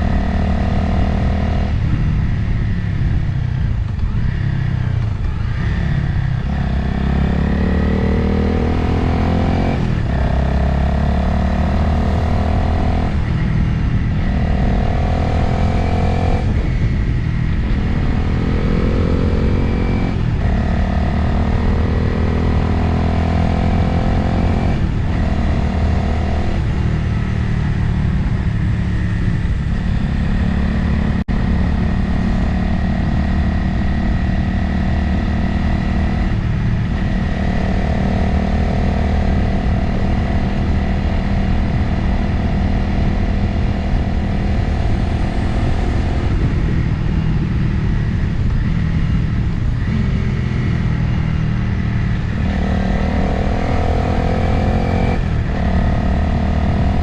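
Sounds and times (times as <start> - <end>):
motorcycle engine revving: 0.0 - 57.0
wind noise on microphone: 0.0 - 57.0.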